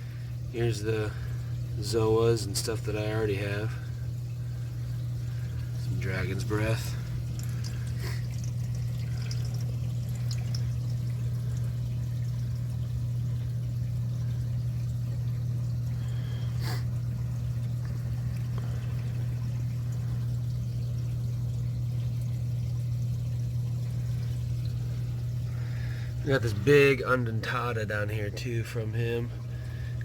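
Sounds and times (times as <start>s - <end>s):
aquarium water trickling: 0.0s - 30.0s
steady low hum: 0.0s - 30.0s.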